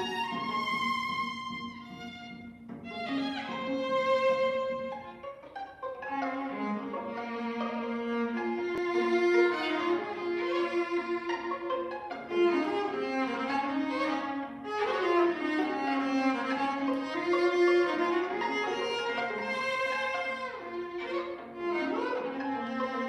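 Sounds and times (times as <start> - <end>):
string quartet bowed chords: 0.0 - 23.0.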